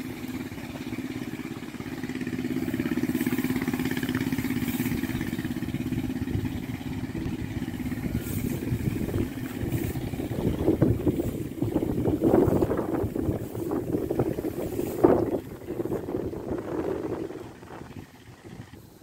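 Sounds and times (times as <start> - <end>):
brush cutter engine running: 0.0 - 19.0.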